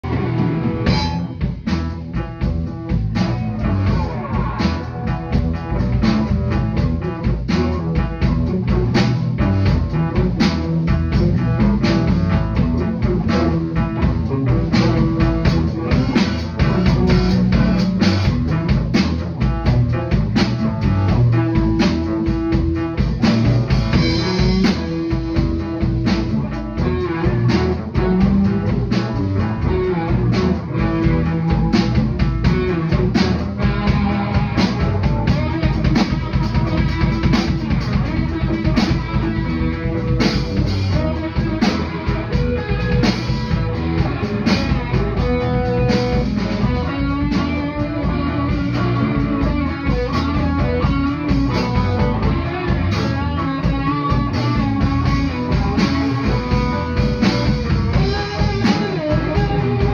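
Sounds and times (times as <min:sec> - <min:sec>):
bass guitar: 0:00.0 - 0:59.9
drum kit beat: 0:00.0 - 0:59.9
electric guitar: 0:00.0 - 0:59.9.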